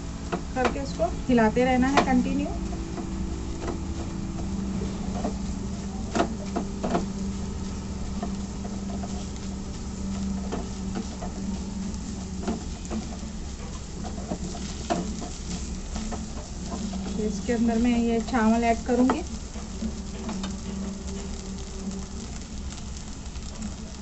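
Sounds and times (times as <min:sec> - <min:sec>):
egg sizzling in a pan: 0:00.0 - 0:24.0
steady low hum: 0:00.0 - 0:24.0.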